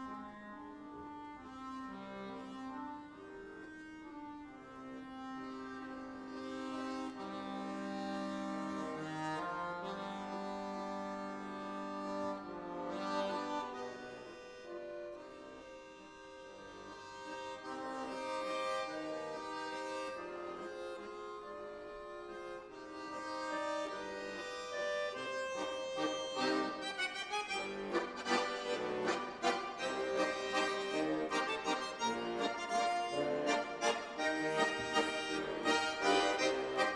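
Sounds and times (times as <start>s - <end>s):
button accordion melody: 0.0s - 36.9s.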